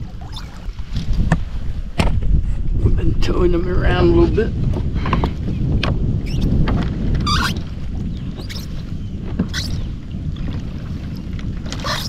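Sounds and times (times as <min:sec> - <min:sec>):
water splashing against kayak: 0:00.0 - 0:02.7, 0:04.2 - 0:12.0
steady low rumble: 0:00.0 - 0:11.6.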